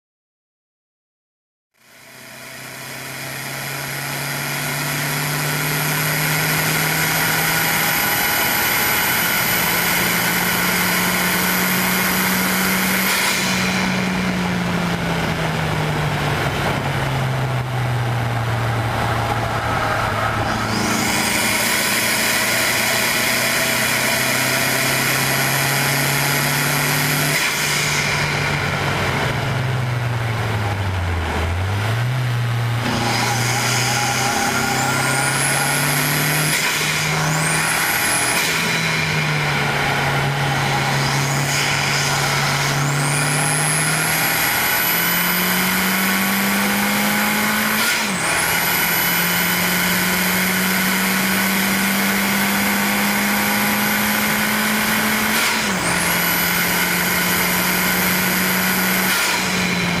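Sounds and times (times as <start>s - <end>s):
car engine at full throttle: 1.8s - 60.0s.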